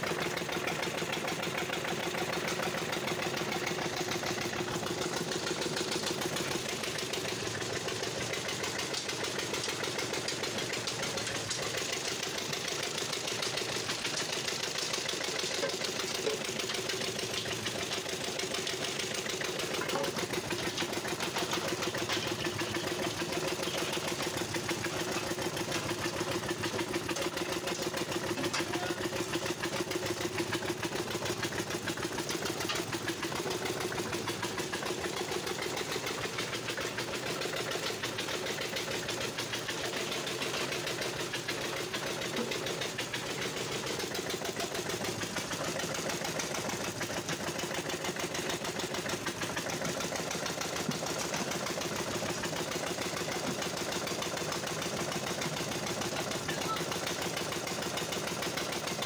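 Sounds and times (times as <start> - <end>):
stationary engine running: 0.0 - 59.0.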